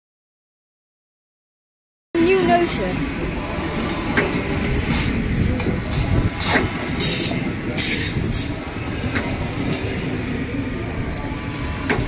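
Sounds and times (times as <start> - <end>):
train wheels rumbling on rails: 2.2 - 12.0.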